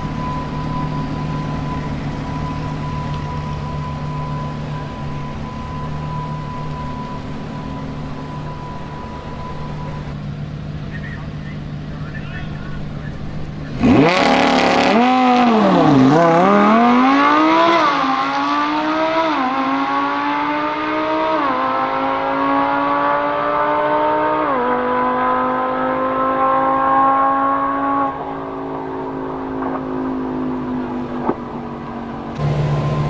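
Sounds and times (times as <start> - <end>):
sports car engine accelerating: 0.0 - 33.0.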